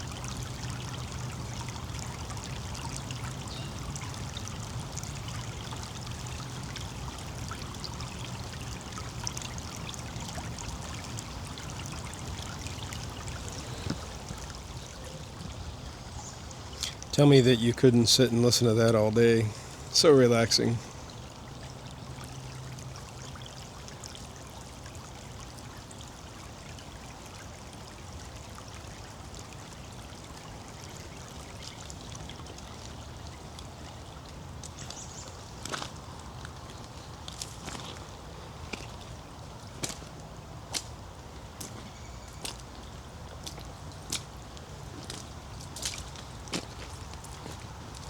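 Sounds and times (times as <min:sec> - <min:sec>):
creek water trickling: 0:00.0 - 0:48.0.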